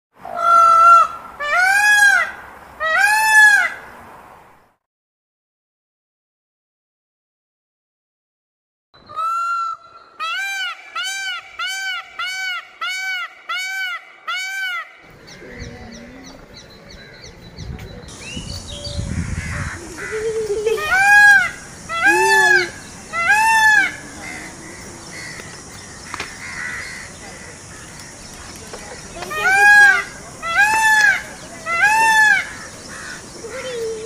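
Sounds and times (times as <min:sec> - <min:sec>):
peacock calling: 0:00.2 - 0:03.9, 0:09.0 - 0:34.0.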